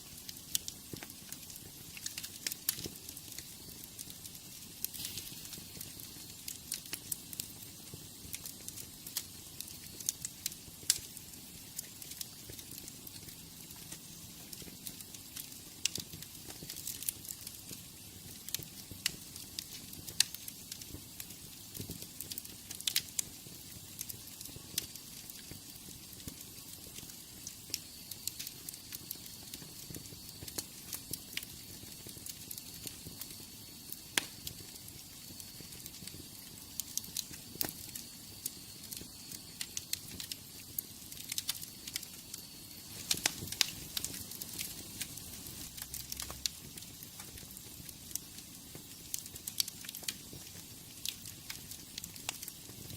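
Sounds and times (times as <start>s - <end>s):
steady hiss: 0.0s - 52.9s
wood fire crackling and popping: 0.0s - 52.9s.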